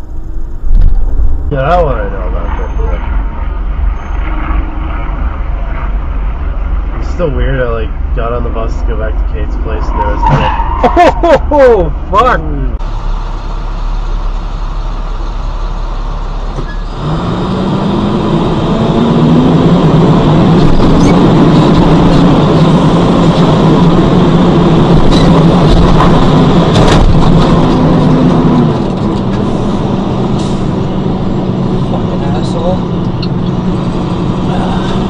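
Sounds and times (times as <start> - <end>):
vehicle engine hum: 0.0 - 35.0.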